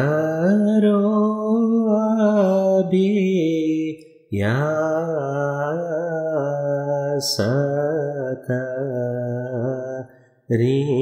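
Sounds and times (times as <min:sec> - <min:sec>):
person singing devotional hymn: 0:00.0 - 0:11.0.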